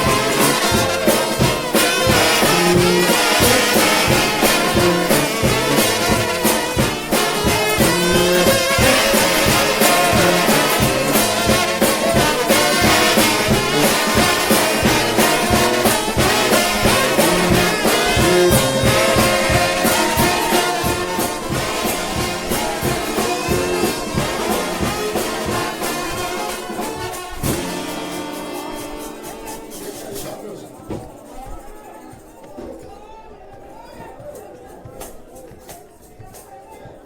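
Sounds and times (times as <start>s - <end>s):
driving drum beat: 0.0s - 31.2s
massed trombones playing: 0.0s - 32.0s.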